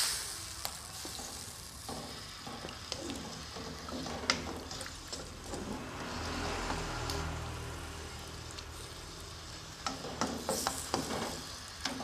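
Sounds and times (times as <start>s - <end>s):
seafood sizzling in a wok: 0.0s - 12.0s.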